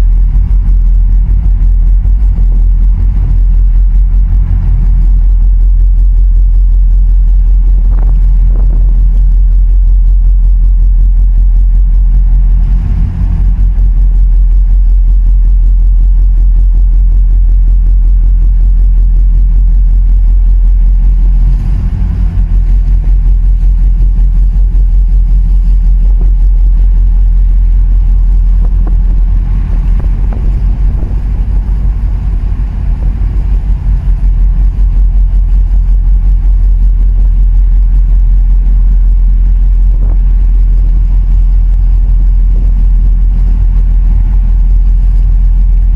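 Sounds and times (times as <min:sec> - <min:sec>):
boat engine rumbling: 0:00.0 - 0:45.9
wind buffeting microphone: 0:00.0 - 0:45.9.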